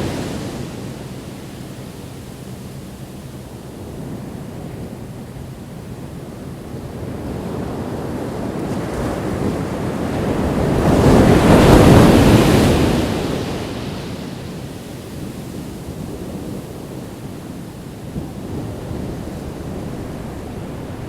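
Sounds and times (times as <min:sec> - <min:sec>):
ocean waves crashing on beach: 0:00.0 - 0:21.0
wind buffeting microphone: 0:00.0 - 0:21.0.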